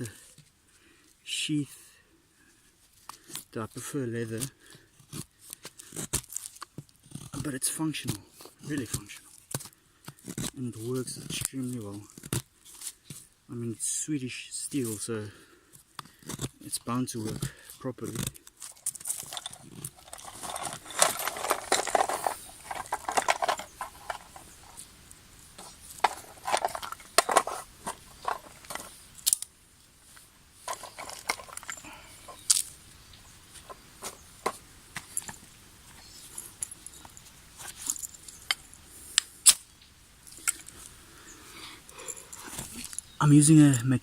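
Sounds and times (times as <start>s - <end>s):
rustling: 2.4s - 13.4s, 14.7s - 43.2s.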